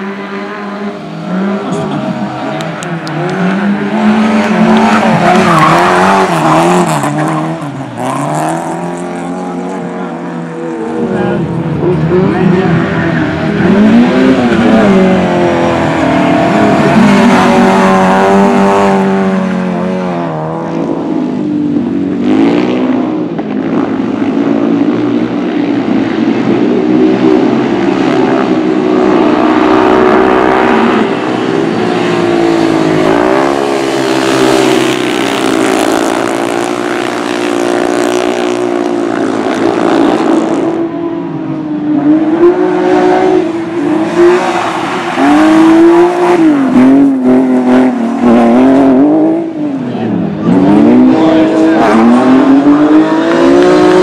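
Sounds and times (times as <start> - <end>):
racing engines revving: 0.0 - 54.0.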